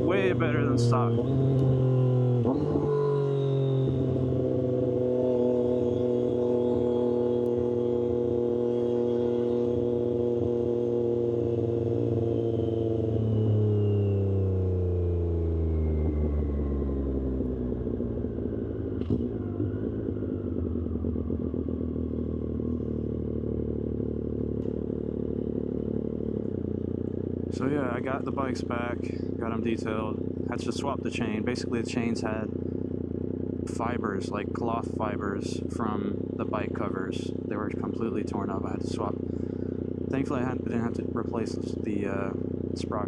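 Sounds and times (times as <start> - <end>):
motorcycle engine burbling: 0.0 - 43.0.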